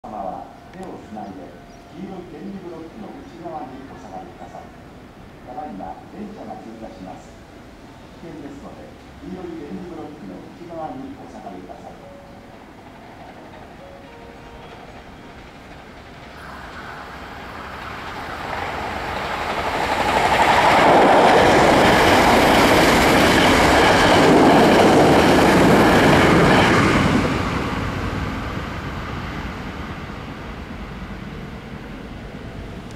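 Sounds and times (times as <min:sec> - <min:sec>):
electric train passing at speed: 0:00.1 - 0:32.9.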